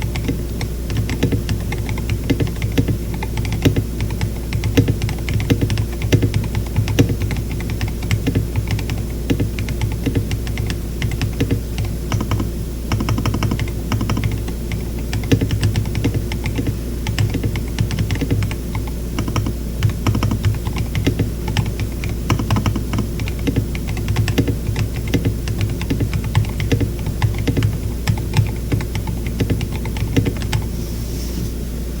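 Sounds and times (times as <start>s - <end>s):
mechanical keyboard typing: 0.0s - 30.7s.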